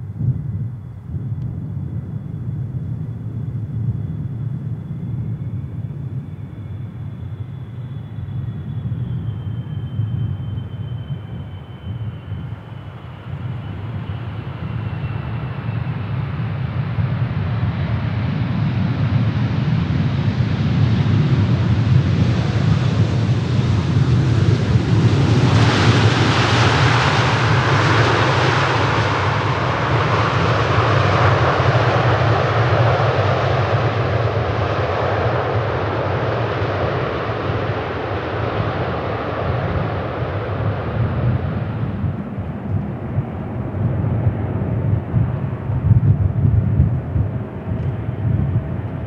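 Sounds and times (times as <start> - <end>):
jet engines rumbling: 0.0 - 49.0.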